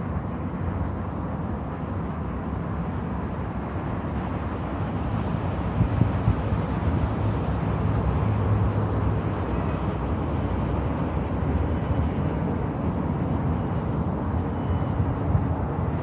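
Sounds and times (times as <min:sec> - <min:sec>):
low rumble of city noise: 0:00.0 - 0:16.0.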